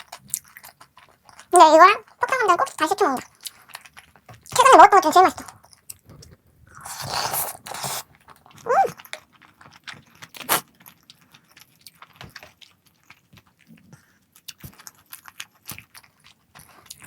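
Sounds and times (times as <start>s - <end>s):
eating clicks and crunches: 0.0s - 6.4s, 7.6s - 17.0s.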